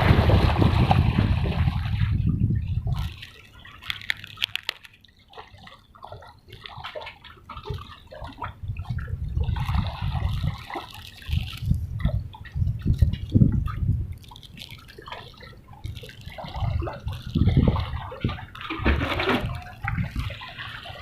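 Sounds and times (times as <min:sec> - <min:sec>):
small water splashes: 0:00.0 - 0:21.0
water sloshing and dripping: 0:00.0 - 0:21.0.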